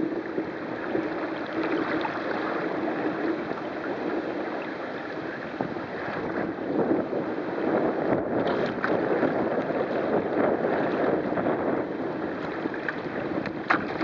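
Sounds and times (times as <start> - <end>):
water rushing along a kayak hull: 0.0 - 14.0.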